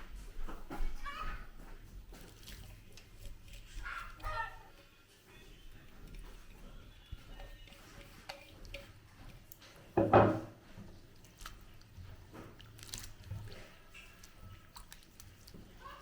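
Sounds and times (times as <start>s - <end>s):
person chewing food: 1.5s - 10.0s, 10.6s - 16.0s.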